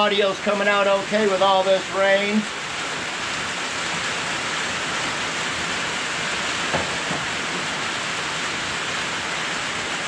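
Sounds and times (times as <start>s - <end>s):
rain on a metal roof: 0.0s - 10.0s.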